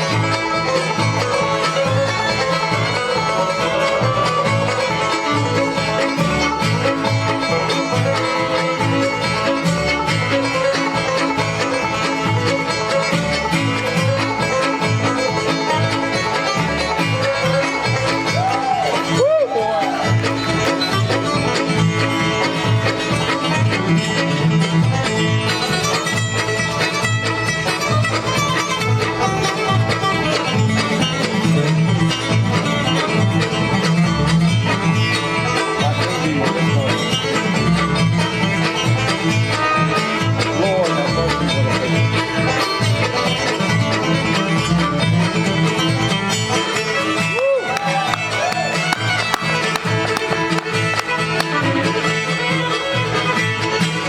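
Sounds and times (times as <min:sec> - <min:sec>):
banjo rolls: 0:00.0 - 0:54.0
bluegrass band playing: 0:00.0 - 0:54.0.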